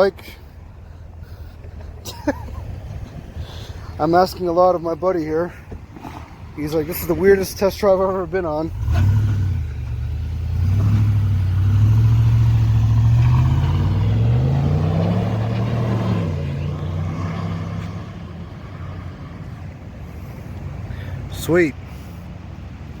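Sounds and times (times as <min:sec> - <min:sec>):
pickup truck engine accelerating: 0:00.0 - 0:23.0.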